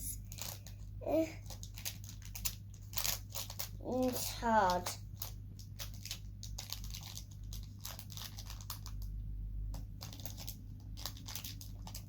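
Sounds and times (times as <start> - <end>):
plastic packaging crinkling and tearing: 0.2 - 12.0.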